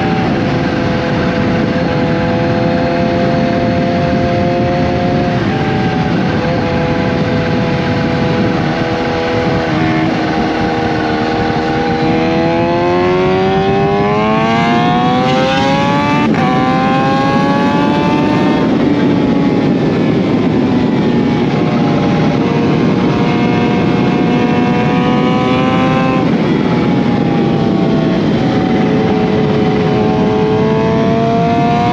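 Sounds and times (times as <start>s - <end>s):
motorcycle engine revving: 0.0s - 31.9s
wind noise: 0.0s - 31.9s.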